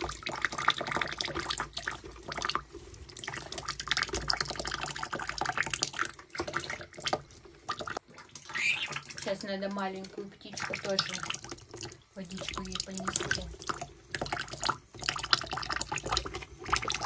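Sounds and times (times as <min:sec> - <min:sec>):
bird splashing water: 0:00.0 - 0:17.0
water trickling into bucket: 0:00.0 - 0:17.0.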